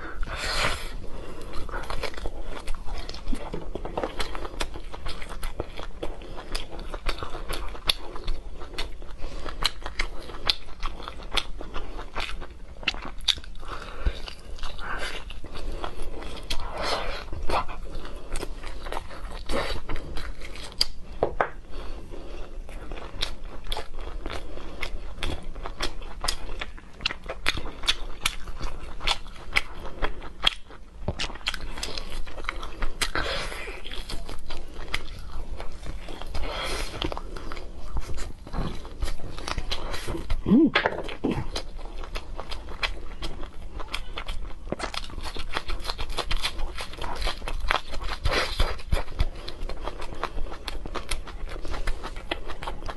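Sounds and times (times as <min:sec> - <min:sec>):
chewing and biting meat: 0:00.0 - 0:52.9.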